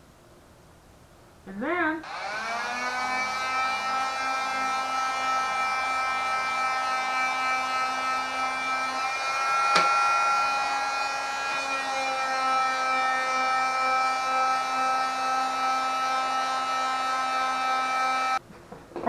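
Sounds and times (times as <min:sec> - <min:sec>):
power tool whining into wood: 0:02.0 - 0:18.4.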